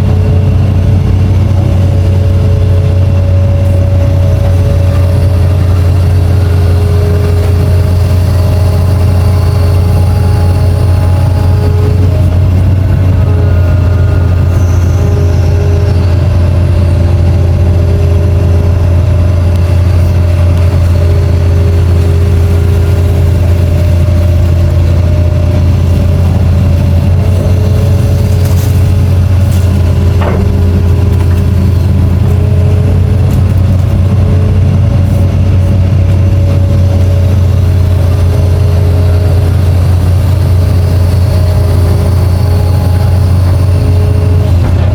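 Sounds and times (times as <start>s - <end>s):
excavator diesel engine running: 0.0s - 44.9s
whining tones: 0.0s - 44.9s.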